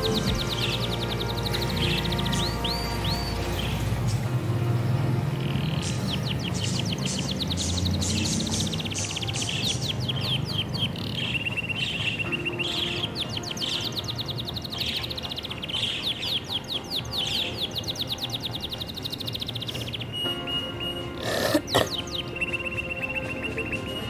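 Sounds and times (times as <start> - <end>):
budgies chirping: 0.0 - 4.3, 5.3 - 24.0.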